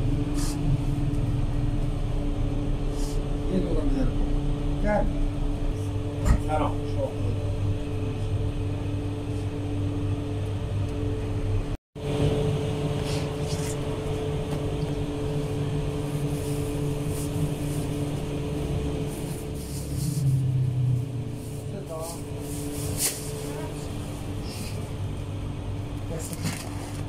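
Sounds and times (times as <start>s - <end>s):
oven machine hum: 0.0s - 27.0s.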